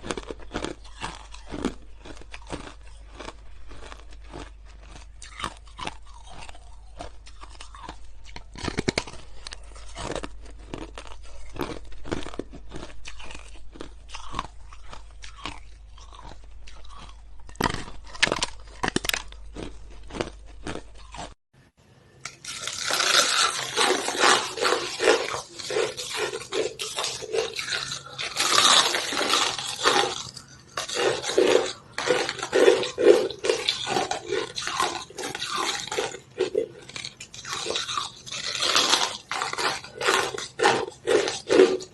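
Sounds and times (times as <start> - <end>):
ice being crunched and chewed: 0.0 - 21.4, 22.2 - 41.9.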